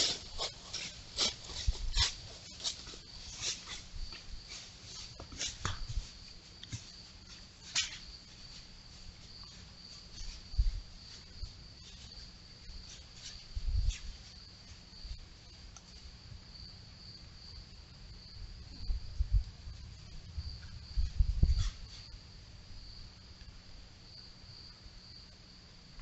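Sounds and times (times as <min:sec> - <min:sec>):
insect trill: 0:00.0 - 0:26.0.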